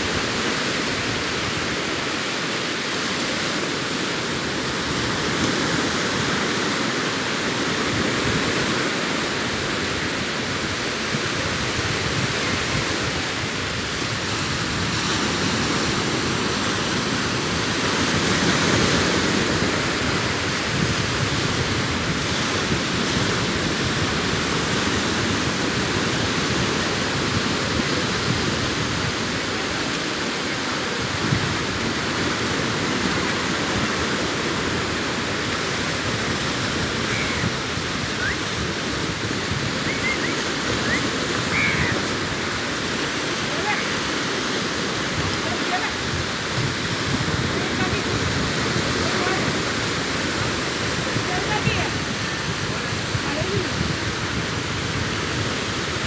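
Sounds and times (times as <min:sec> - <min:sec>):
waves breaking on sandy beach: 0:00.0 - 0:56.0.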